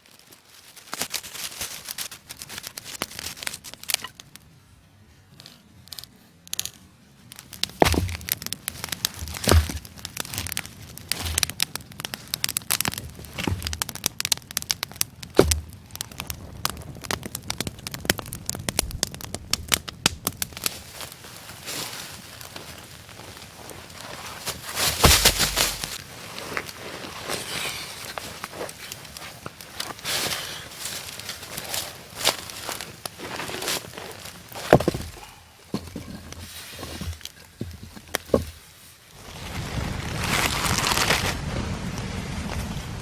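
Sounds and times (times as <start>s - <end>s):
campfire crackling: 0.0s - 4.6s, 5.5s - 43.0s
wood snapping: 0.8s - 4.4s, 5.8s - 38.6s.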